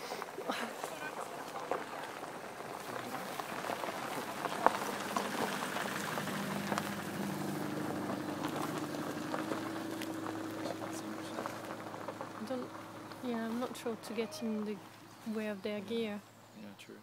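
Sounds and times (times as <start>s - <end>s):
dry grass and leaves rustling: 0.0s - 16.4s.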